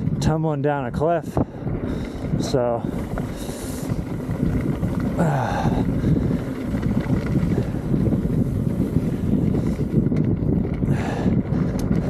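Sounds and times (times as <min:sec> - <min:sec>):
low rumble of downhill riding: 0:00.0 - 0:12.0
wind buffeting microphone: 0:00.0 - 0:12.0.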